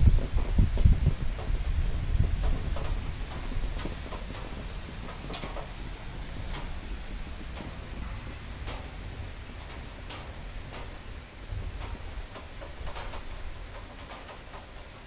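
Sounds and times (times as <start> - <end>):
low thunder rumble: 0.0 - 13.6
rain falling steadily: 0.0 - 15.0
drips ticking on a surface: 2.4 - 15.0.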